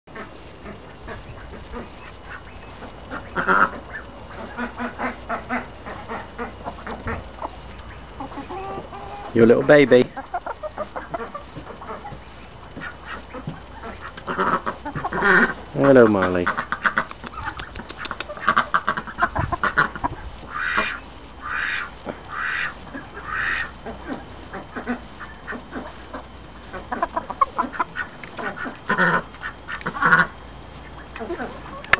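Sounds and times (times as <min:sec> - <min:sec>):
duck quacking: 0:00.1 - 0:31.9.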